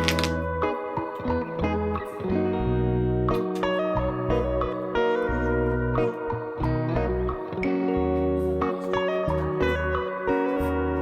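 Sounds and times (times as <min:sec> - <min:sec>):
plucked guitar: 0:00.0 - 0:11.0.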